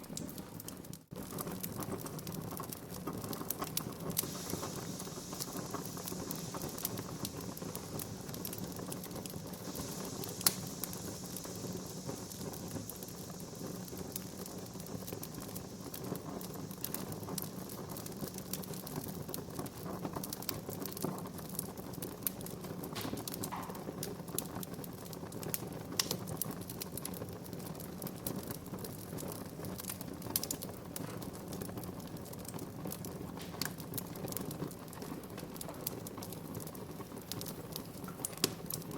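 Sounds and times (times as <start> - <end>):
fire popping and snapping: 0.0 - 38.9
low hiss: 0.0 - 38.9
wood fire crackling: 0.0 - 38.9.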